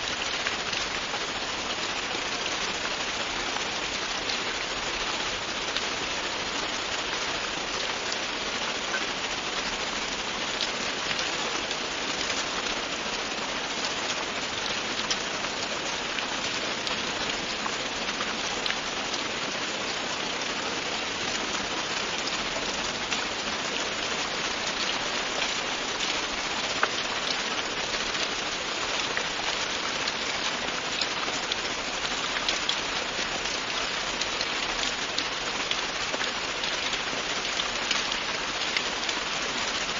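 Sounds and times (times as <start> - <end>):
raindrops pattering: 0.0 - 39.9
steady rainfall: 0.0 - 39.9.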